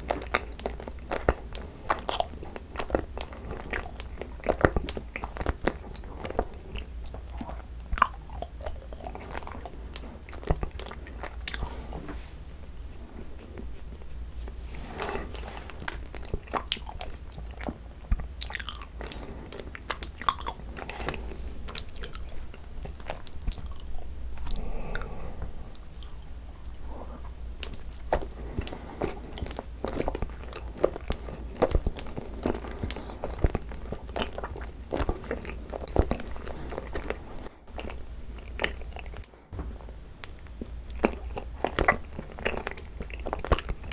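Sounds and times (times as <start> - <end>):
chewing sticky rice cakes: 0.0 - 43.9
faint low hum: 0.0 - 43.9.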